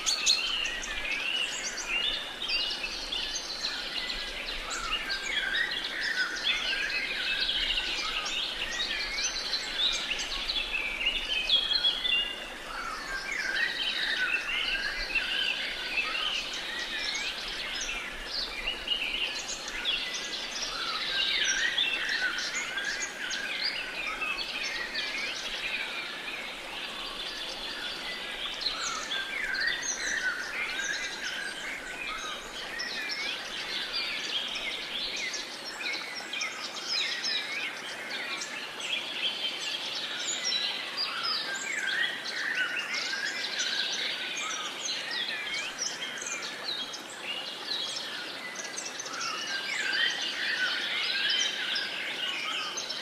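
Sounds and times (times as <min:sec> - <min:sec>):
songbirds chirping and singing: 0:00.0 - 0:53.0.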